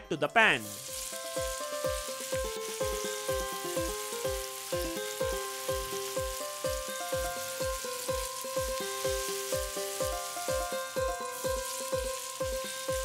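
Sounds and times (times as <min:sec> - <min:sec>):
background music with drum beat: 0:00.0 - 0:13.0
food sizzling in oil: 0:00.6 - 0:13.0.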